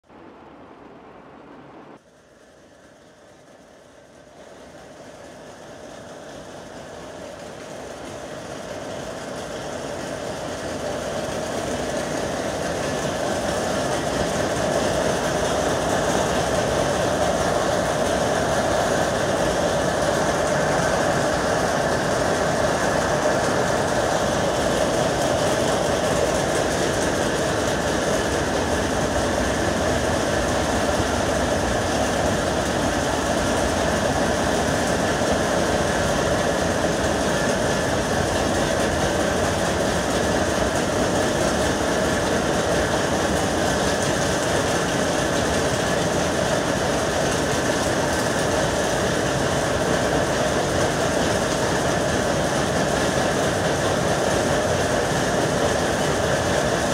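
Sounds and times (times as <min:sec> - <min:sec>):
power loom clattering: 0:07.1 - 0:56.9.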